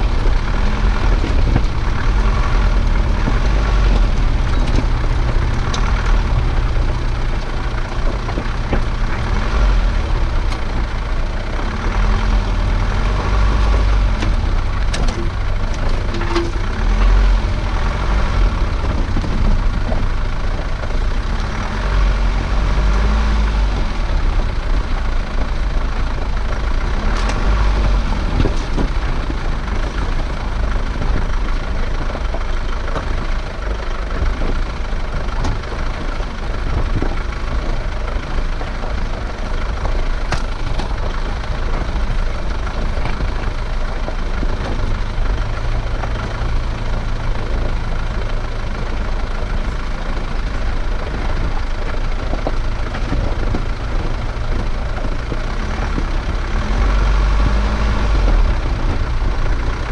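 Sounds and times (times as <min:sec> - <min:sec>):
low engine rumble: 0:00.0 - 0:59.9
tyres on gravel: 0:00.0 - 0:59.9.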